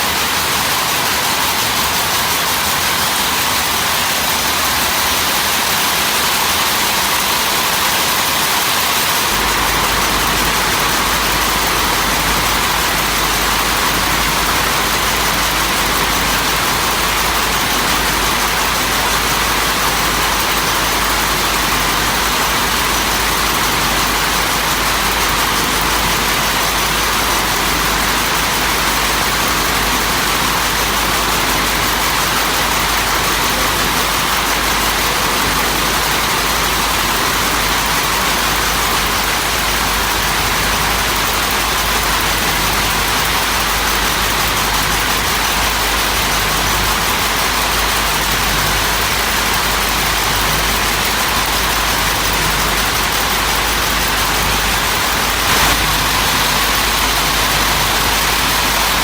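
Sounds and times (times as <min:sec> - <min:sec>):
machinery hiss and rumble: 0:00.0 - 0:59.0.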